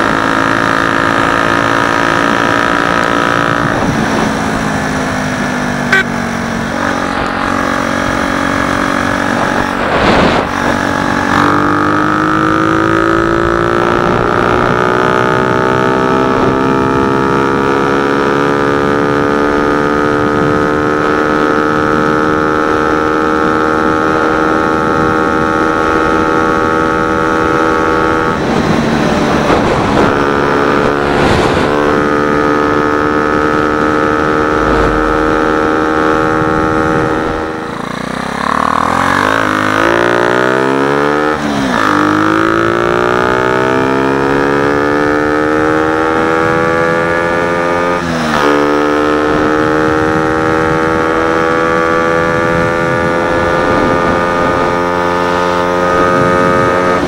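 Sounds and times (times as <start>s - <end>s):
moped engine running: 0.0s - 17.1s, 18.0s - 57.0s.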